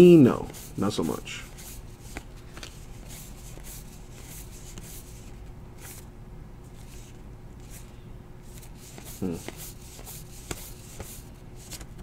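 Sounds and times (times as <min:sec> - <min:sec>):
trading cards swishing: 0:00.0 - 0:06.1, 0:06.7 - 0:07.9, 0:08.5 - 0:12.0.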